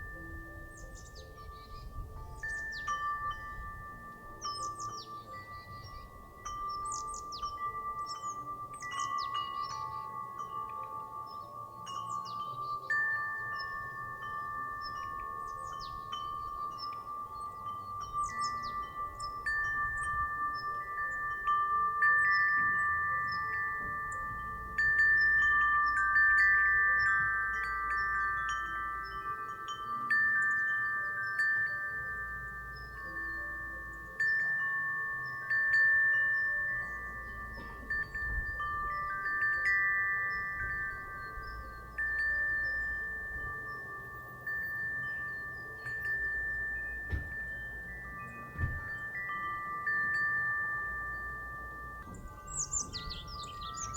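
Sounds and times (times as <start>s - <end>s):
wind chime ringing: 0.0s - 53.9s.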